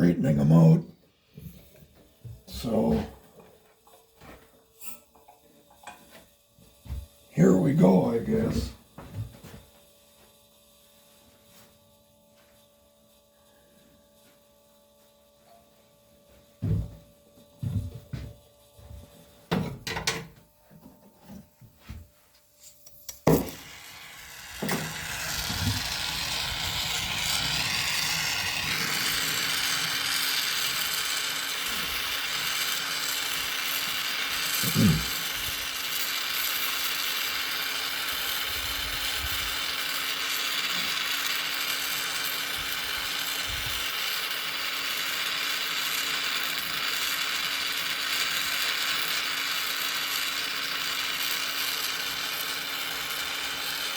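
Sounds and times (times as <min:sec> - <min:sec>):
gas torch hissing: 0:00.0 - 0:14.5, 0:22.6 - 0:53.9.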